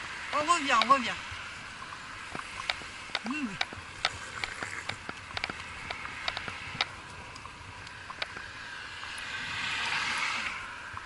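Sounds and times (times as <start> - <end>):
car passing: 0.0 - 11.0
horse hooves on asphalt: 0.3 - 11.0.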